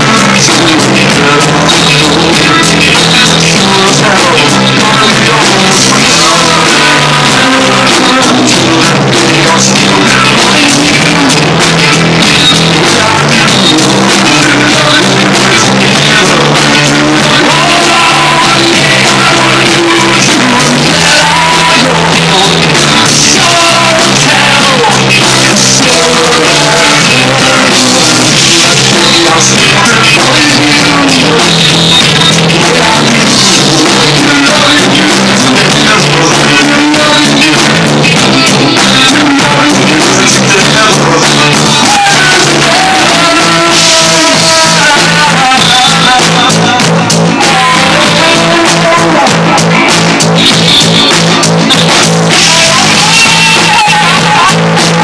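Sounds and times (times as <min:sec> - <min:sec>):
drum kit: 0:00.0 - 0:55.0
electric bass guitar: 0:00.0 - 0:55.0.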